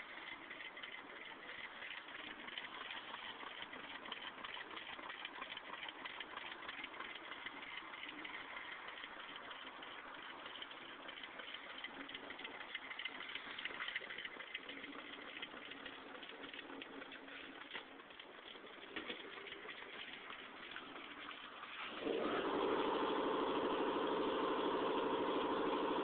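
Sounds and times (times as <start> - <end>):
stirling engine rattling ticks: 0.0 - 26.0.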